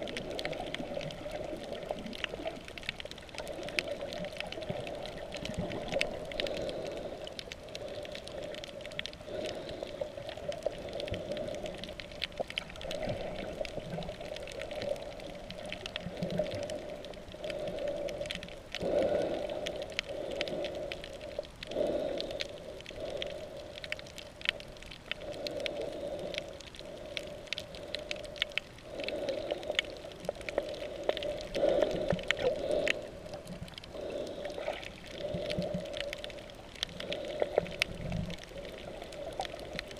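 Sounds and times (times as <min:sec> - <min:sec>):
muffled underwater rush of water: 0:00.0 - 0:39.9.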